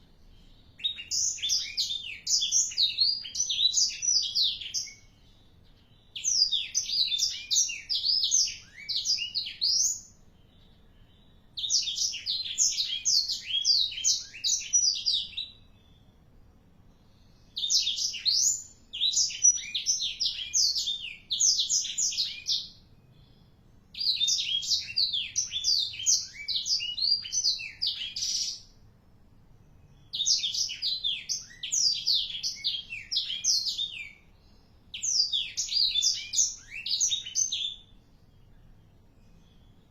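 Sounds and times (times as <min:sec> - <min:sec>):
canary twittering song: 0:00.0 - 0:39.9.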